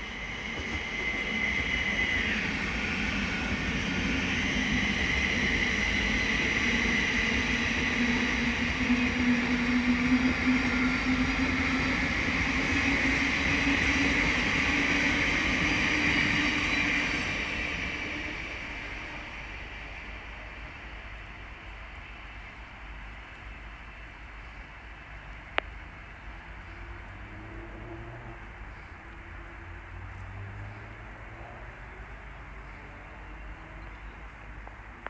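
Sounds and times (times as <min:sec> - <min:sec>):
electric train whine: 0:00.0 - 0:30.1
train wheels rumbling on rails: 0:00.0 - 0:35.0.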